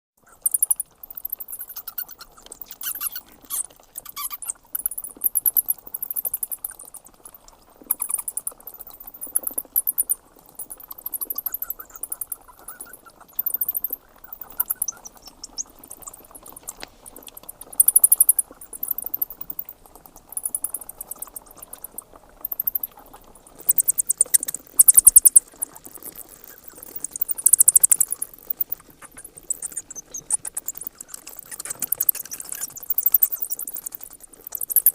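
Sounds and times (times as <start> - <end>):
bat high-pitched clicks: 0.4 - 6.6, 7.9 - 19.6, 23.6 - 25.5, 26.6 - 34.9.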